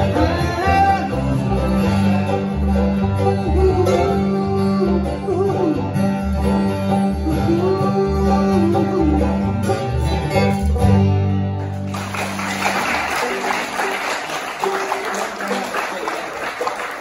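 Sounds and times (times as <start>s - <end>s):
acoustic guitar: 0.0s - 15.4s
banjo: 0.0s - 15.6s
bluegrass band playing: 0.0s - 17.0s.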